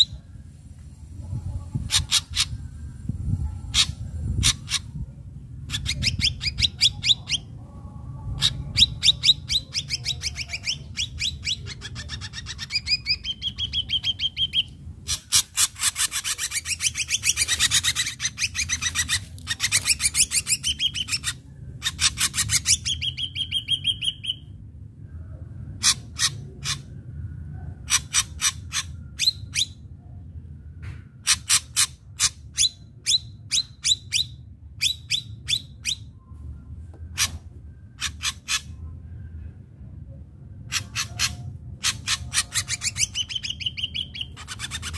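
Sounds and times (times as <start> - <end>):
low background rumble: 0.0 - 44.9.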